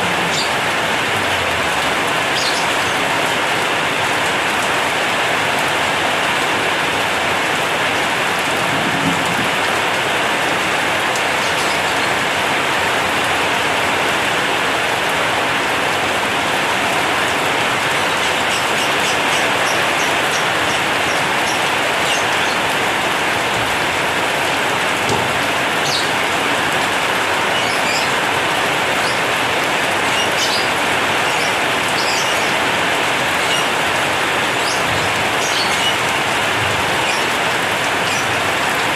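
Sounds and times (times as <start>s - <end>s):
heavy rain on metal roof: 0.0s - 38.9s.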